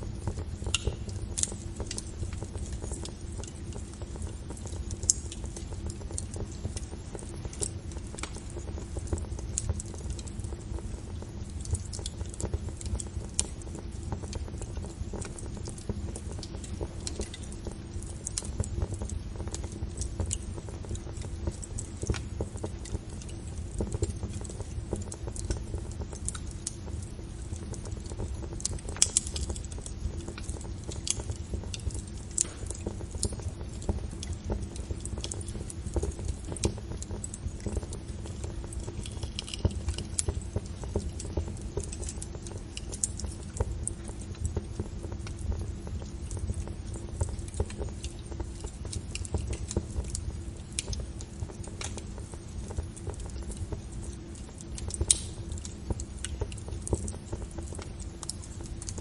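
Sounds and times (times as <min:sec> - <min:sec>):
fire popping and snapping: 0:00.0 - 0:59.0
low rumble of flames: 0:00.0 - 0:59.0.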